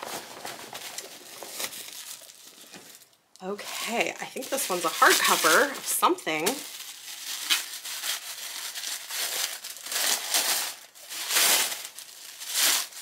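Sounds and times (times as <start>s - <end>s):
tissue paper crinkling and tearing: 0.0s - 13.0s.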